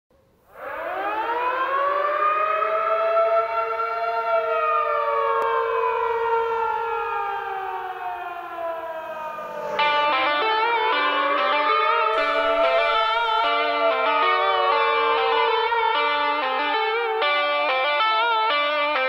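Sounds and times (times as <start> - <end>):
siren winding up and down: 0.5 - 18.4.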